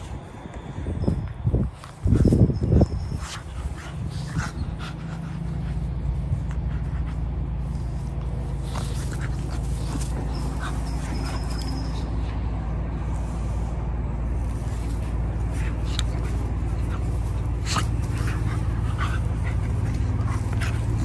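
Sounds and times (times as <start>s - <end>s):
steady low rumble: 0.0s - 21.0s
puppies scuffling: 1.8s - 12.5s, 14.2s - 21.0s.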